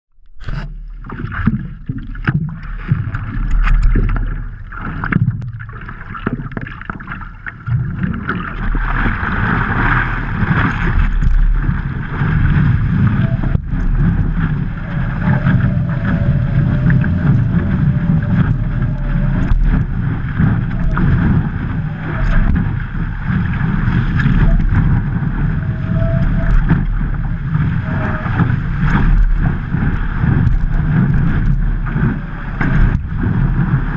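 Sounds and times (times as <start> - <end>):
water splashing and rushing: 0.2 - 33.9
wind buffeting microphone: 0.5 - 33.9.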